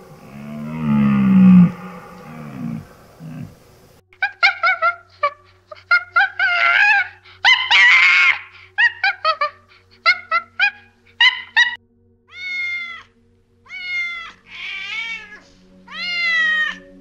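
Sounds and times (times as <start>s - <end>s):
high-pitched animal calls: 0.0s - 13.1s, 13.7s - 17.0s
animal squeals wavering: 0.1s - 3.6s, 5.9s - 13.1s, 13.7s - 17.0s.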